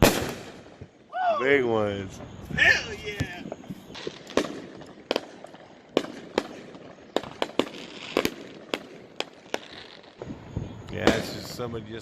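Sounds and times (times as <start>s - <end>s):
firework shells bursting: 0.0s - 1.0s, 2.1s - 11.8s
firework crackle: 0.0s - 12.0s.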